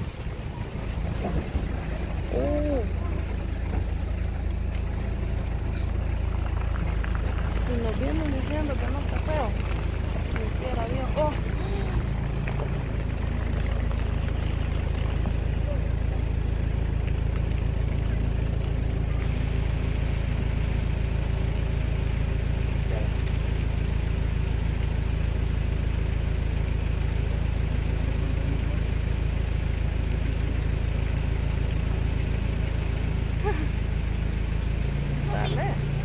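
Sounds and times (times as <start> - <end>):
vehicle engine idling: 0.0 - 36.0.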